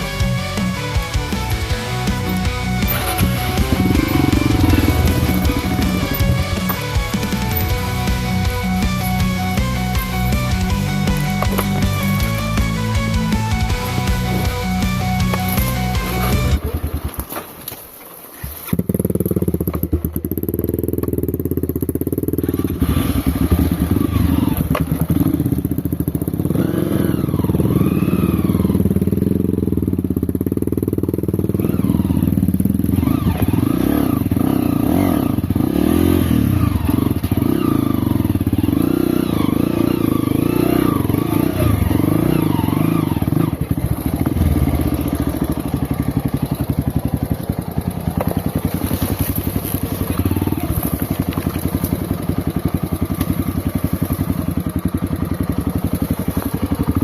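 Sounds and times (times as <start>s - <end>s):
motorcycle engine revving: 0.0s - 17.6s, 18.4s - 57.0s
riding through brush: 0.0s - 57.0s.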